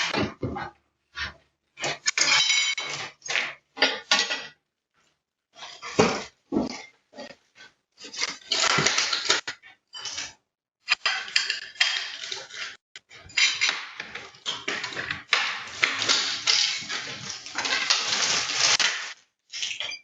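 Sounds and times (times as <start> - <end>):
objects clattering and rustling: 0.0 - 20.0.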